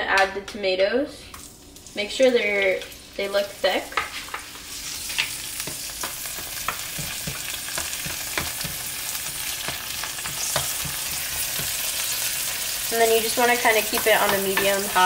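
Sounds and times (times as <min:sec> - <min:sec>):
tomato slices sizzling in oil: 0:01.4 - 0:15.0.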